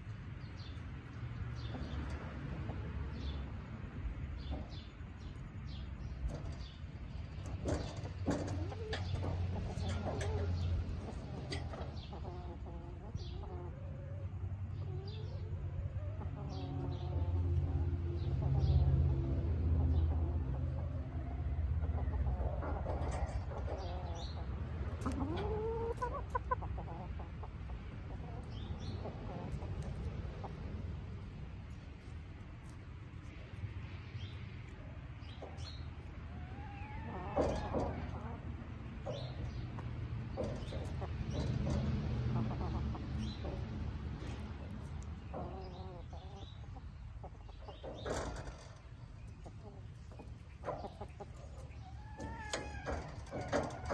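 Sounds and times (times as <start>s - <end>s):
hens clucking: 0.0s - 53.9s.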